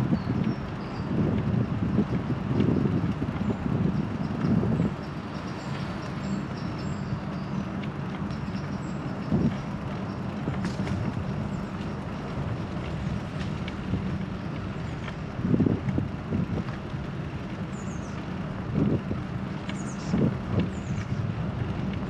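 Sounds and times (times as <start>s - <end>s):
constant low hum: 0.0s - 22.0s
road traffic rumble: 0.0s - 22.0s
wind buffeting microphone: 0.0s - 22.0s.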